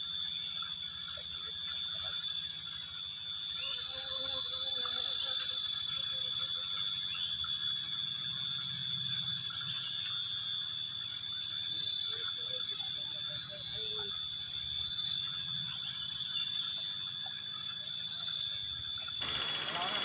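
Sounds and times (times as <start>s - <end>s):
steady high-pitched whine: 0.0s - 20.0s.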